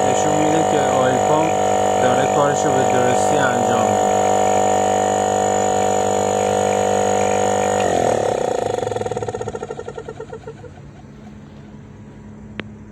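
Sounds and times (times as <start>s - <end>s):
refrigerator compressor humming: 0.0s - 12.9s.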